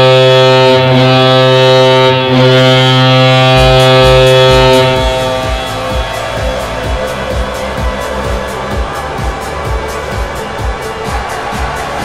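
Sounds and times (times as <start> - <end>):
hockey goal horn: 0.0 - 11.9
music with heavy beat: 0.0 - 12.0.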